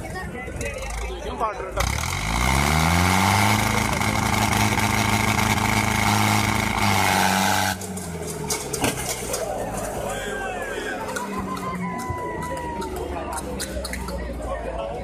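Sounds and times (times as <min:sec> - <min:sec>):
tractor diesel engines revving: 0:00.0 - 0:15.0.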